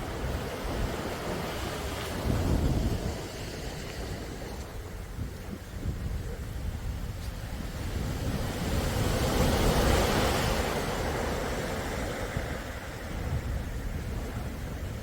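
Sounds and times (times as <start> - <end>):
sea waves breaking on shore: 0.0 - 15.0
wind rumble on microphone: 0.0 - 15.0.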